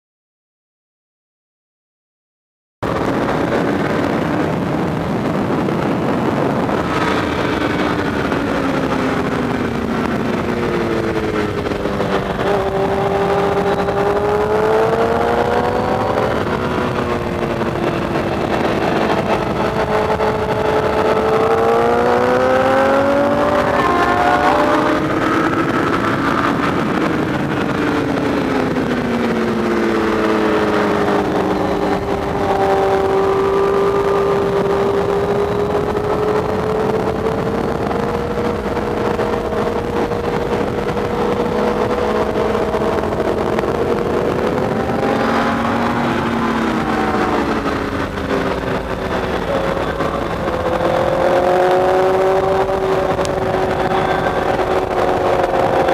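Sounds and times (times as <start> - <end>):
motorcycle engine revving: 2.8 - 55.9
wind rushing: 2.8 - 55.9.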